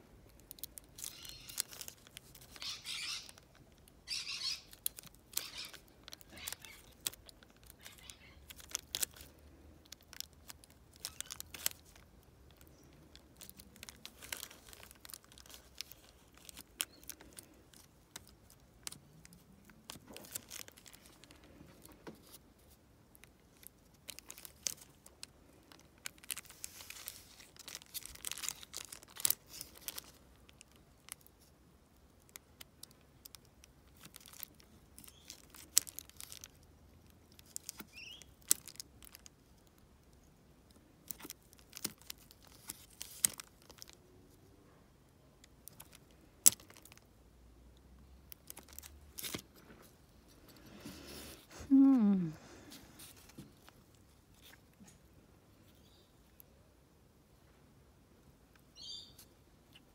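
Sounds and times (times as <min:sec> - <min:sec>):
plastic wrapping crinkling: 0:00.0 - 0:44.6, 0:45.4 - 0:47.2, 0:48.0 - 0:55.0.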